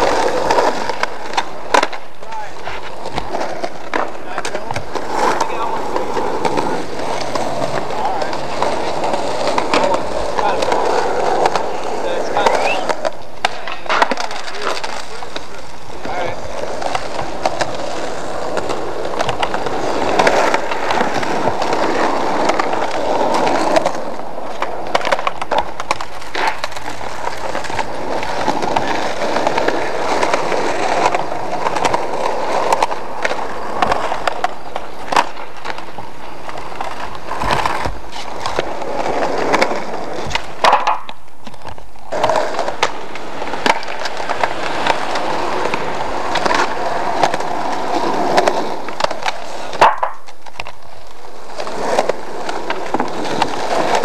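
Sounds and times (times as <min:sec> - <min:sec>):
skateboard wheels rolling on concrete: 0:00.0 - 0:54.0
skateboards clacking and landing: 0:00.0 - 0:54.0.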